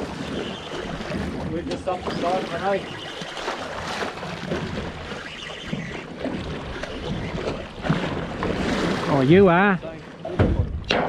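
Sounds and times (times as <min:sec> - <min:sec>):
water rushing: 0:00.0 - 0:10.8
wind: 0:00.0 - 0:11.0.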